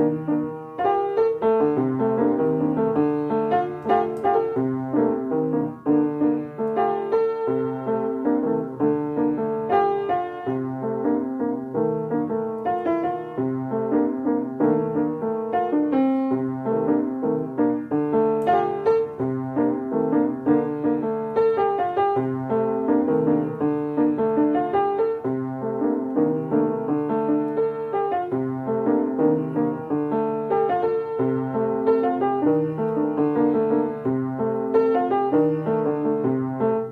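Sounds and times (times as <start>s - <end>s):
piano music: 0.0s - 36.9s.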